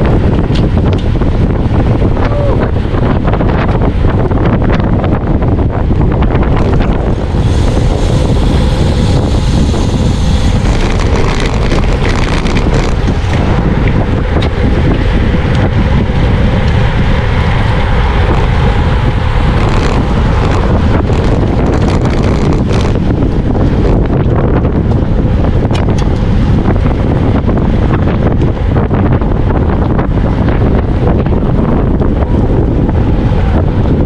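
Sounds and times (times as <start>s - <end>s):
heavy wind on microphone: 0.0s - 34.0s.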